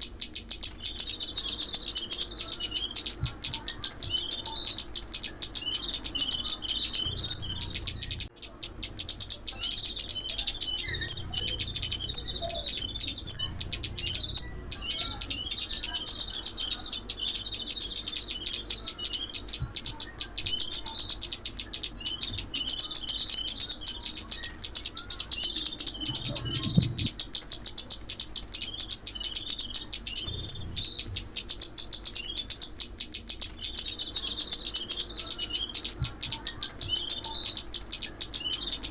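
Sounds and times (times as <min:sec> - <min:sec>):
recorded songbird chips and twitters: 0:00.0 - 0:38.9.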